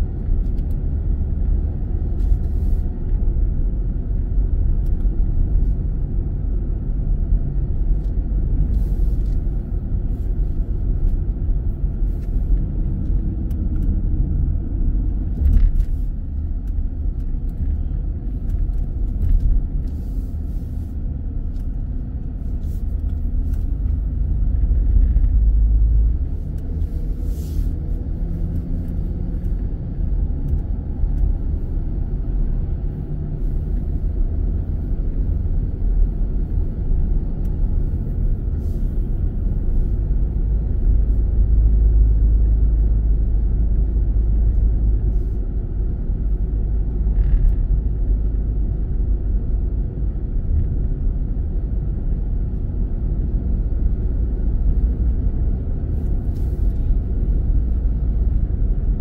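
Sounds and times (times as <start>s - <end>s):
car interior road and engine noise: 0.0s - 59.0s.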